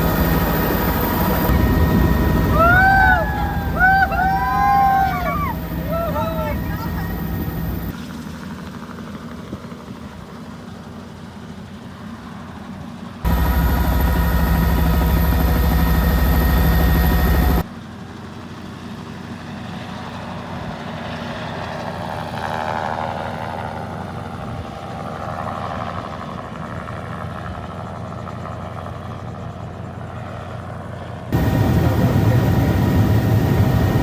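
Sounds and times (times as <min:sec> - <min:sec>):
helicopter engine and rotor: 0:00.0 - 0:34.0.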